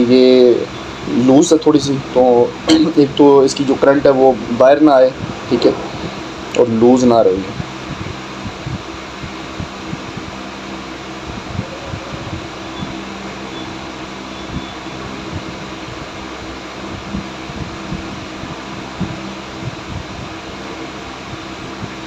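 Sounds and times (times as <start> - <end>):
mechanical whirring hum: 0.0 - 22.0.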